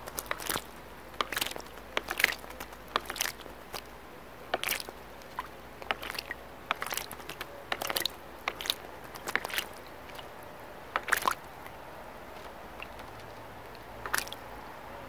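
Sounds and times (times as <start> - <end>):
bird splashing in water: 0.0 - 14.9.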